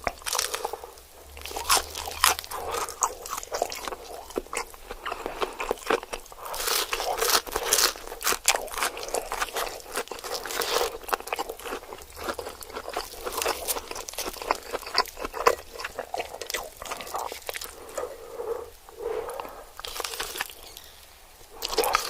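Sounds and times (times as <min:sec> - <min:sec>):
chewing and crunching: 0:00.0 - 0:22.0.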